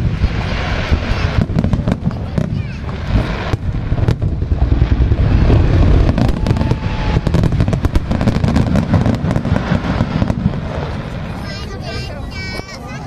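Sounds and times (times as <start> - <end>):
fireworks booming: 0.0 - 13.0
fireworks crackling: 0.0 - 13.0.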